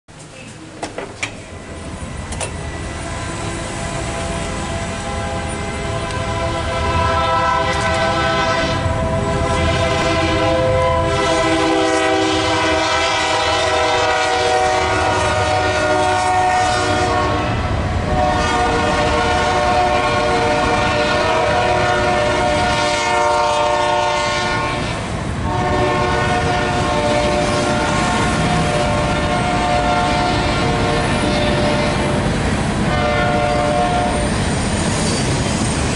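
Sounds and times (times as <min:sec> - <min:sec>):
low rumble of train: 0:00.1 - 0:35.9
locomotive air horn blasts: 0:02.6 - 0:32.2, 0:32.8 - 0:34.4.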